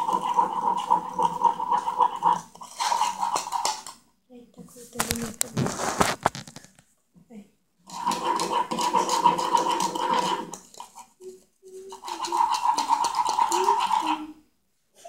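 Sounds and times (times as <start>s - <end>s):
metal spoon scraping container: 0.0s - 4.0s, 5.0s - 6.6s, 7.8s - 14.4s.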